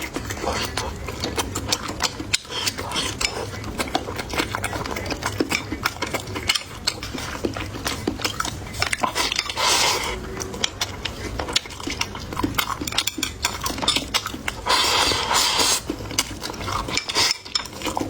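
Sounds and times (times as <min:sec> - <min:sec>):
chewing crunchy food: 0:00.0 - 0:18.0.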